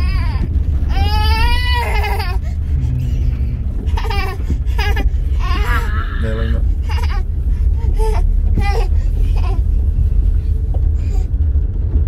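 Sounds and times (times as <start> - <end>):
car rumble from inside cabin: 0.0 - 12.0
windshield wiper squeaking: 0.1 - 11.0.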